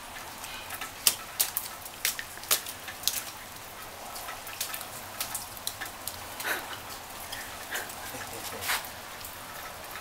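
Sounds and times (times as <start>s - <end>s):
raindrops tapping close by: 0.0s - 10.0s
steady rain falling: 0.0s - 10.0s.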